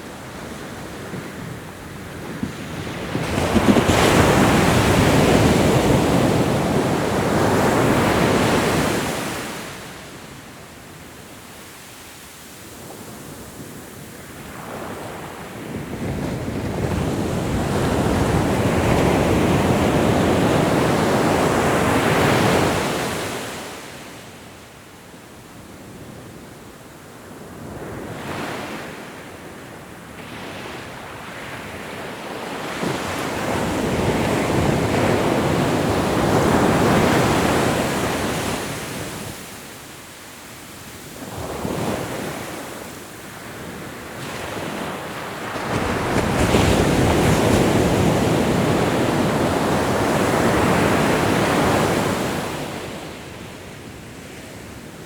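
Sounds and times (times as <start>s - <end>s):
ocean surf washing ashore: 0.0s - 24.4s, 30.1s - 55.0s.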